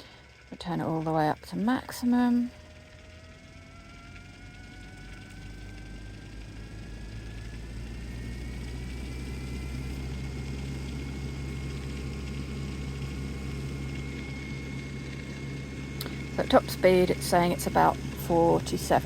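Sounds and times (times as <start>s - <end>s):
low hum: 0.0s - 19.0s
motor whine rising in pitch: 0.0s - 19.0s.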